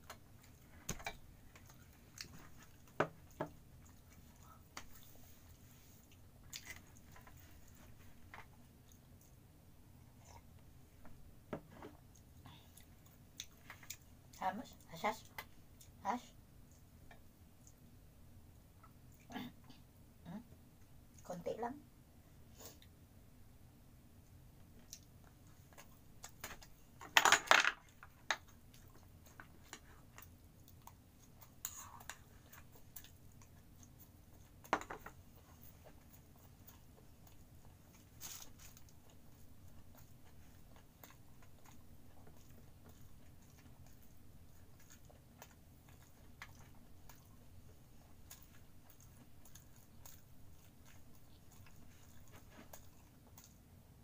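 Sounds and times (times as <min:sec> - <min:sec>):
soft eating sounds: 0:00.0 - 0:27.2, 0:27.8 - 0:54.0.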